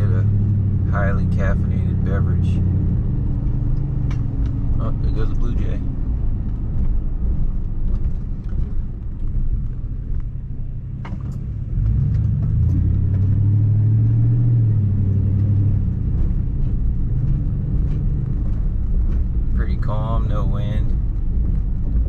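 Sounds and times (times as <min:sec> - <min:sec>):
car engine hum: 0:00.0 - 0:22.0
road rumble: 0:00.0 - 0:22.0.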